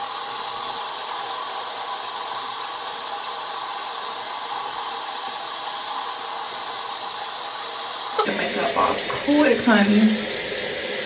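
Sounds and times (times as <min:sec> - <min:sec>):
sink tap running water: 0:00.0 - 0:11.0.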